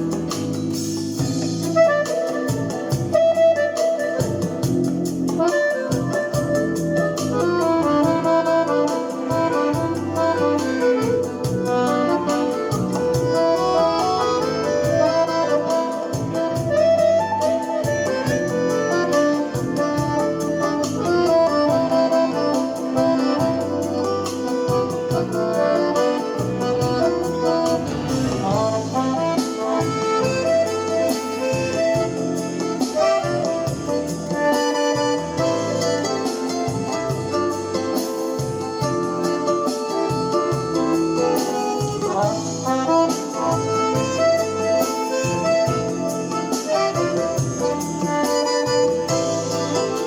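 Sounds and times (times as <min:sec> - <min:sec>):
accordion melody: 0:00.0 - 0:50.0
backing track with bass and beat: 0:00.0 - 0:50.0.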